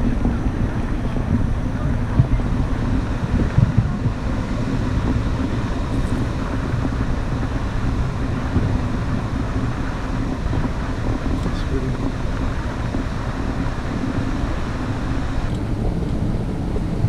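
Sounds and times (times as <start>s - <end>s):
rumble and rush of ship's wake: 0.0s - 17.0s
wind buffeting microphone: 0.0s - 17.0s.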